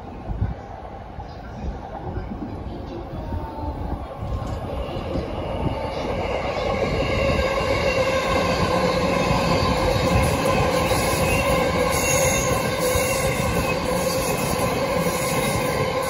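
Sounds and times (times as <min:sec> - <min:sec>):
train running past: 0:00.0 - 0:16.0
train whine: 0:00.0 - 0:16.0.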